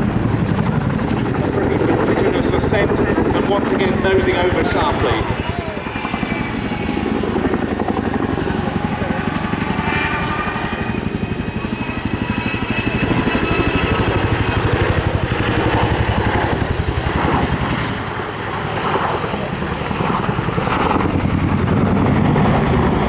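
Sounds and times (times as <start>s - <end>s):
helicopter rotors beating: 0.0s - 23.0s
high turbine whine: 0.0s - 23.0s.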